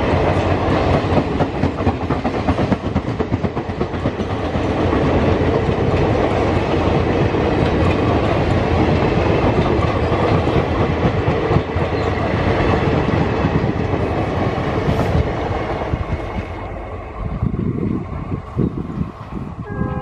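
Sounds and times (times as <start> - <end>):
train coaches rumbling past: 0.0 - 20.0.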